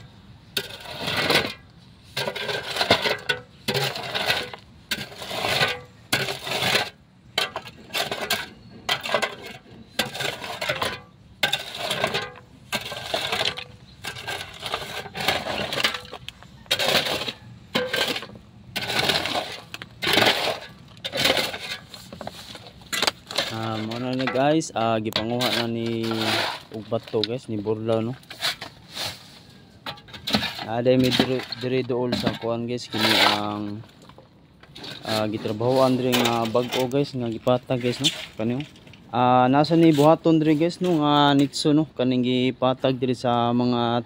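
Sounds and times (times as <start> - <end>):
shovel scraping concrete rubble: 0.0 - 41.8
concrete chunks clinking: 0.6 - 28.8, 29.8 - 39.2.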